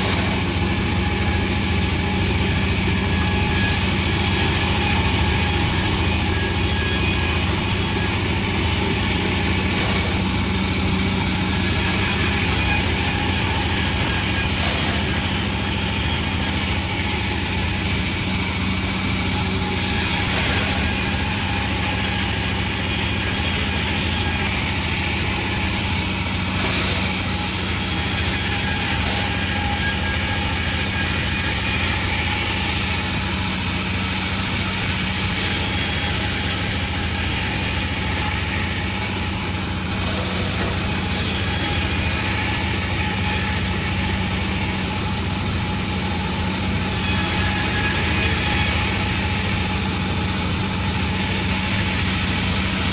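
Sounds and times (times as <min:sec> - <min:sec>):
sawmill machine drone: 0:00.0 - 0:52.9.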